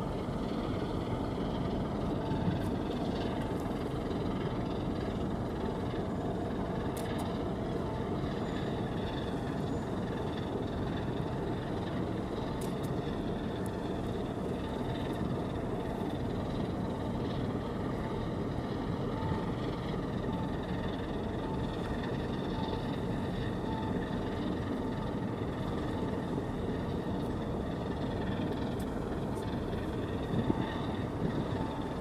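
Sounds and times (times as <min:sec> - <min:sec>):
ship engines rumbling: 0:00.0 - 0:32.0.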